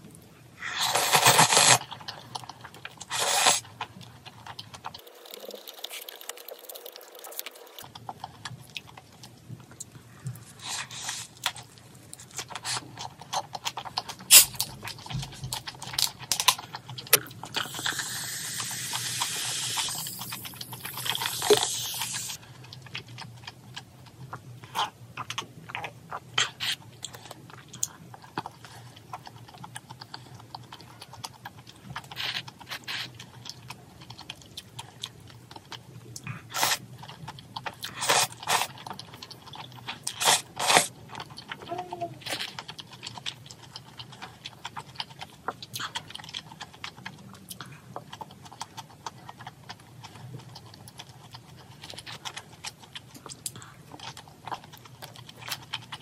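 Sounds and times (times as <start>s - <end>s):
chewing and mouth smacks: 0.6s - 56.0s.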